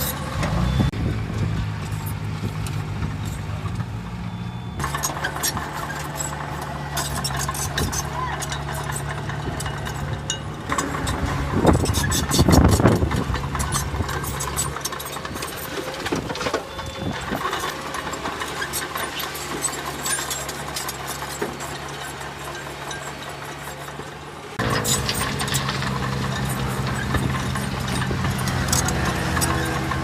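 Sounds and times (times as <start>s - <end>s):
diesel earthmoving machinery running: 0.0s - 30.0s
machinery clanking: 0.0s - 30.0s.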